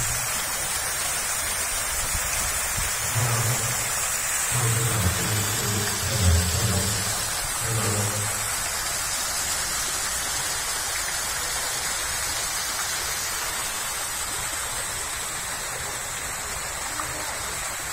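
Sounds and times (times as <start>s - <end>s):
running water splashing: 0.0s - 17.9s.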